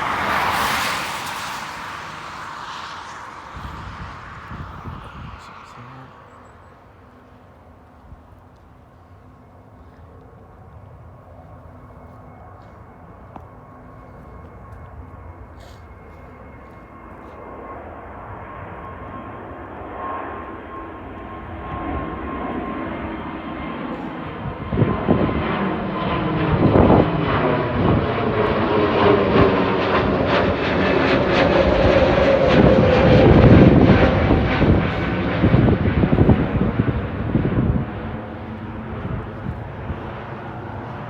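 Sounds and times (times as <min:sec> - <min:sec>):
airliner engines roaring: 0:00.0 - 0:41.0.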